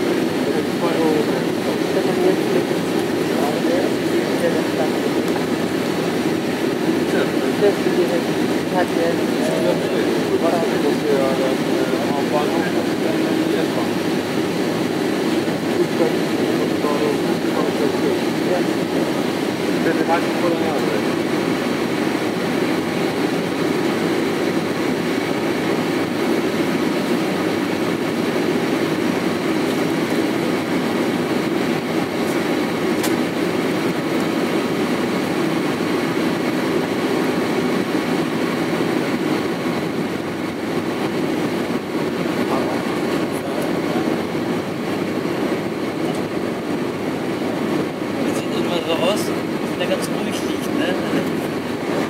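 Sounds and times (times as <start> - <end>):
airflow over fuselage: 0.0 - 52.0
jet engine cabin roar: 0.0 - 52.0.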